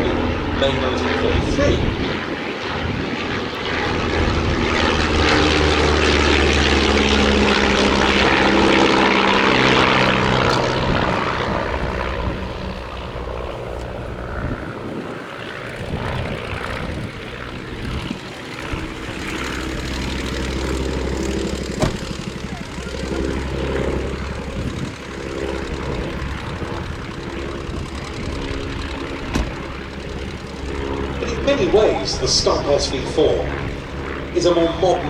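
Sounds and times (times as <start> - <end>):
propeller planes droning by: 0.0 - 35.0.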